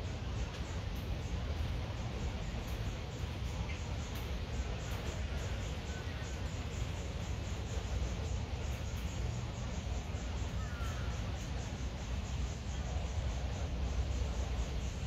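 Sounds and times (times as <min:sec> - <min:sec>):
insect chirring: 0:00.0 - 0:15.0.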